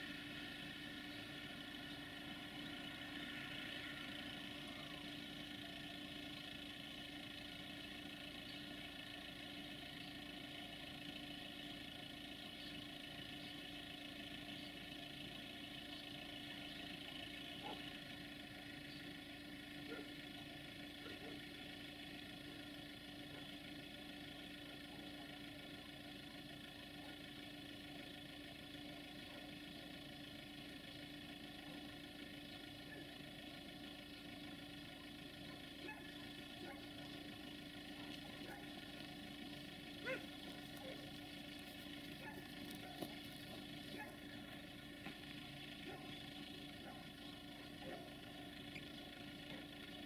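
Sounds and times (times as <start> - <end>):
diesel locomotive engines humming: 0.0 - 50.0.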